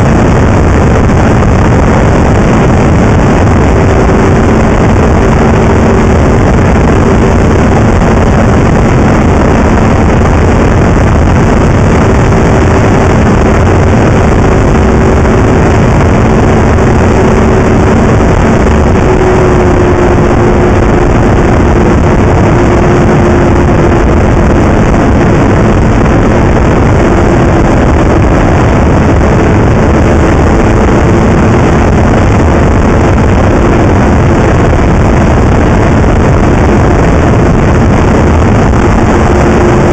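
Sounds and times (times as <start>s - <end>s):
snowmobile engine running: 0.0s - 39.9s
wind on microphone: 0.0s - 39.9s.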